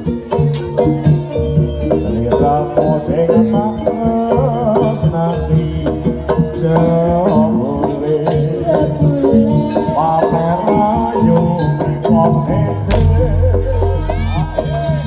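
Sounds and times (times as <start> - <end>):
drums and percussion beat: 0.0 - 15.0
wavering bending melody: 0.0 - 15.0.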